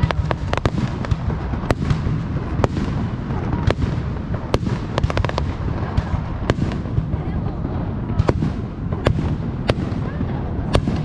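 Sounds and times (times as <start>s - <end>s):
fireworks cracks and bangs: 0.0s - 11.0s
low rumble: 0.0s - 11.0s.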